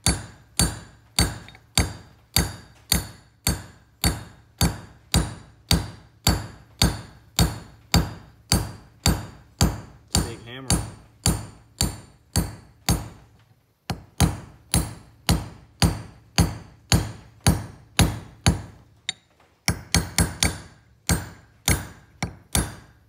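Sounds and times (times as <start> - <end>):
hammer tapping metal blade: 0.0 - 13.1, 13.9 - 23.0.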